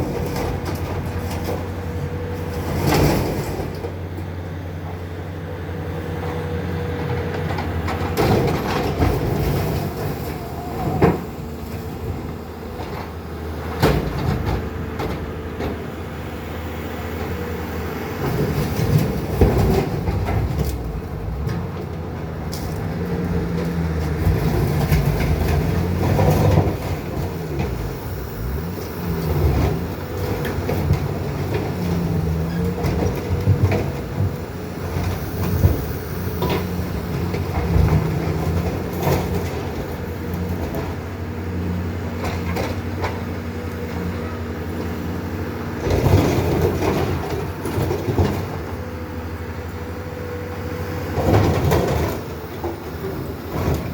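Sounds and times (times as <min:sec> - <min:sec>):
loader engines running: 0:00.0 - 0:53.9.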